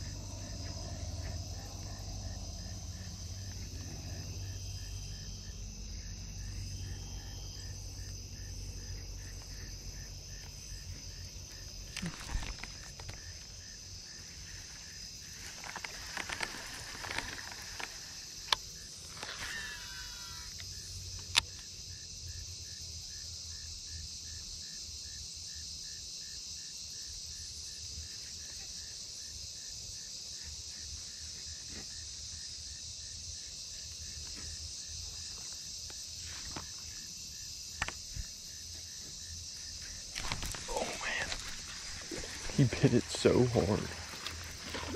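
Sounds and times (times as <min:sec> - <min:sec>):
cricket chirping: 0:00.0 - 0:44.9
insect chorus shrilling: 0:00.0 - 0:44.9.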